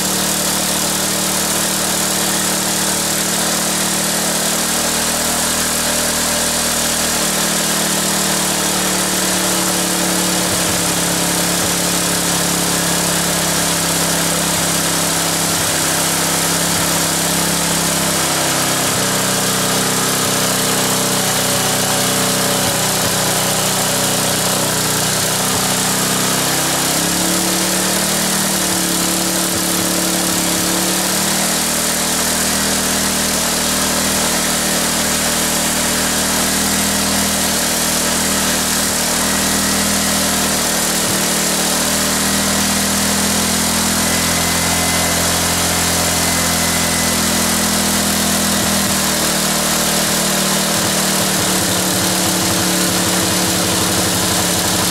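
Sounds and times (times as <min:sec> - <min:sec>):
small engine running: 0:00.0 - 0:54.9.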